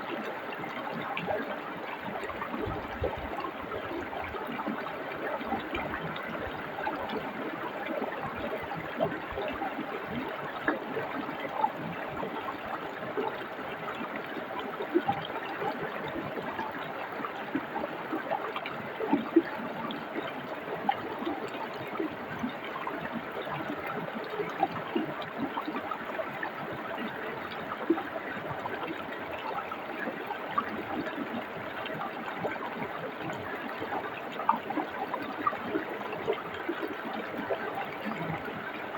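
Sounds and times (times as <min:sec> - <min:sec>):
brook water flowing: 0:00.0 - 0:38.9.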